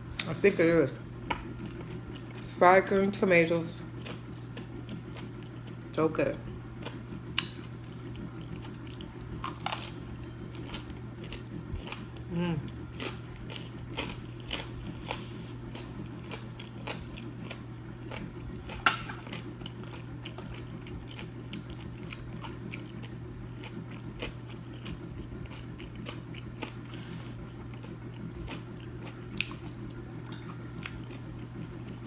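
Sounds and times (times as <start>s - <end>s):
steady low hum: 0.0s - 32.0s
crunchy chewing: 3.8s - 32.0s.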